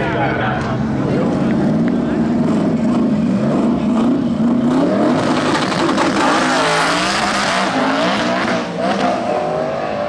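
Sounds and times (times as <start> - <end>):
drag racing cars at full throttle: 0.0 - 10.0.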